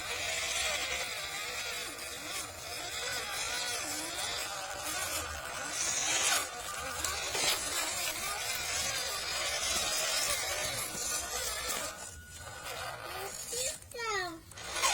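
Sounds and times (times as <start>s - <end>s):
small electric motor whining: 0.0s - 14.9s.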